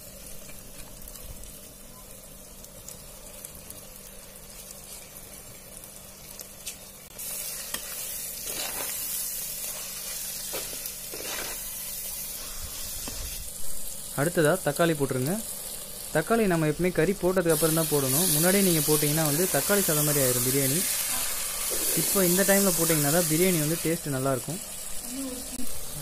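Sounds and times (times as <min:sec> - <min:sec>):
prawns sizzling in hot oil: 0:00.0 - 0:26.0.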